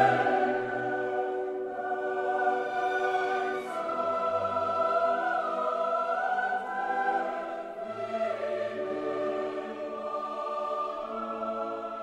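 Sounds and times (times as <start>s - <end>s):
choir singing held notes: 0.0s - 12.0s.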